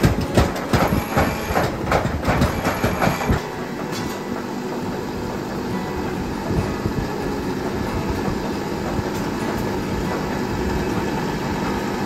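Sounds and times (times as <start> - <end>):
bench grinder running: 0.0 - 12.0
steel scraping on grinding wheel: 0.6 - 12.0.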